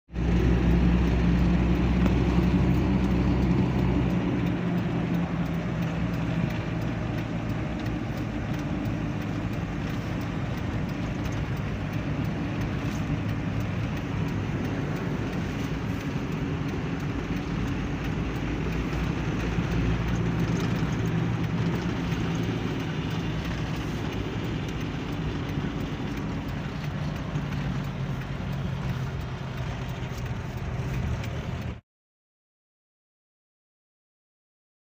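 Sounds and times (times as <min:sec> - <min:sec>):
road noise: 0:00.1 - 0:31.8
vehicle engine running: 0:00.1 - 0:31.8.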